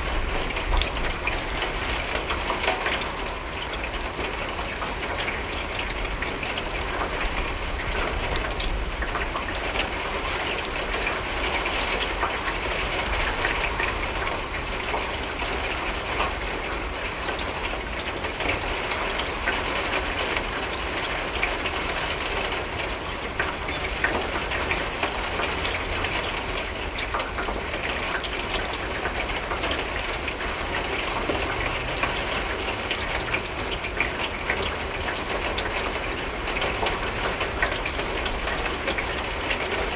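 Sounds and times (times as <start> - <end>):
rain on window pane: 0.0 - 39.9.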